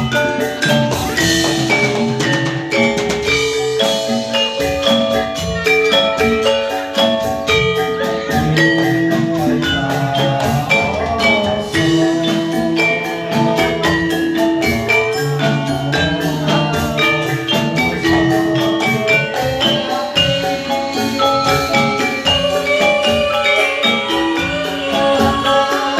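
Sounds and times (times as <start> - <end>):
hand drums: 0.0 - 25.9
struck metallophones ringing: 0.0 - 25.9
wavering melody line: 0.0 - 25.9.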